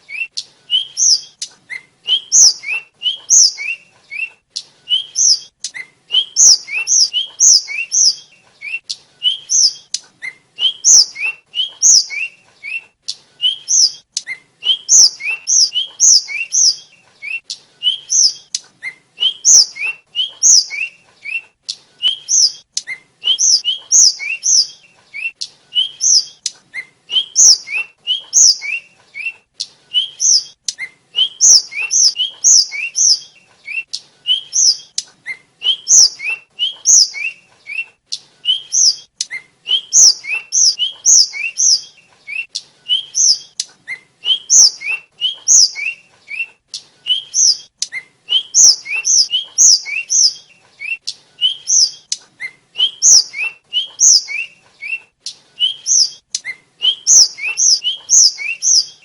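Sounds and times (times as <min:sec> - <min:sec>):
small bird whistling high notes: 0:00.1 - 0:04.3, 0:04.9 - 0:12.8, 0:13.4 - 0:21.4, 0:22.0 - 0:29.4, 0:30.0 - 0:37.9, 0:38.5 - 0:46.5, 0:47.1 - 0:55.0, 0:55.6 - 0:59.0.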